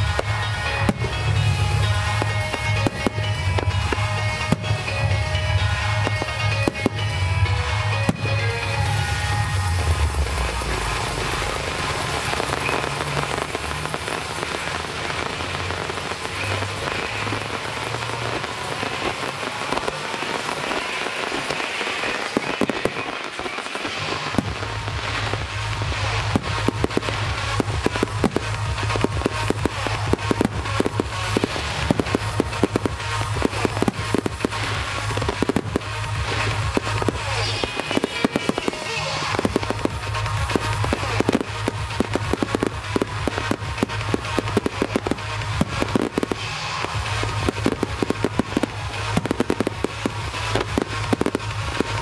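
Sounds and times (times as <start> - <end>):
fireworks crackling hiss: 0.0 - 52.0.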